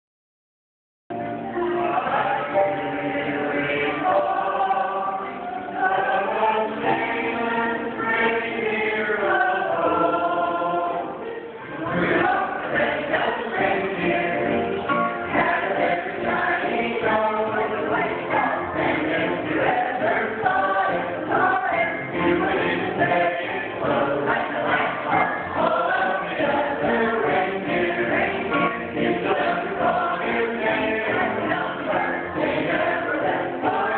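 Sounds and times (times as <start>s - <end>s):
group singing a carol: 1.5s - 33.9s.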